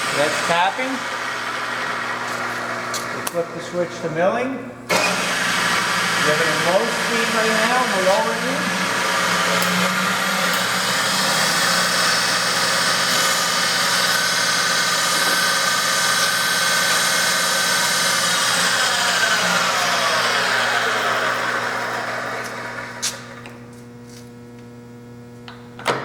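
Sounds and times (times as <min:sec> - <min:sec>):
milling machine whining: 0:00.0 - 0:04.0, 0:04.9 - 0:23.7.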